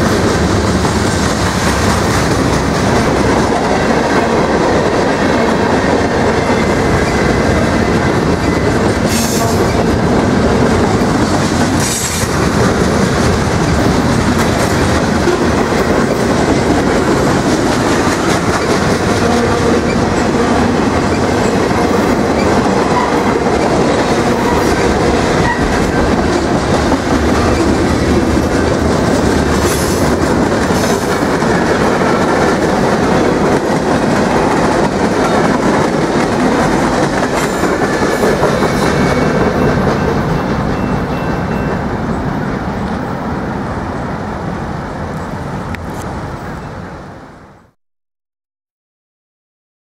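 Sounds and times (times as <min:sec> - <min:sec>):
freight train rumbling past: 0:00.0 - 0:47.8.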